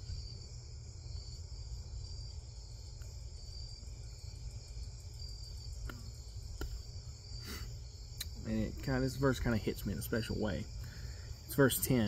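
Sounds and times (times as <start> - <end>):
low steady hum: 0.0 - 12.0
night insects chirping: 0.0 - 12.0.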